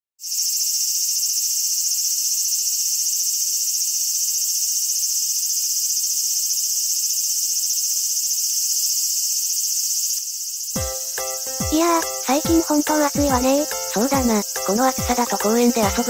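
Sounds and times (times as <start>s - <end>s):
cicadas droning: 0.2s - 16.0s.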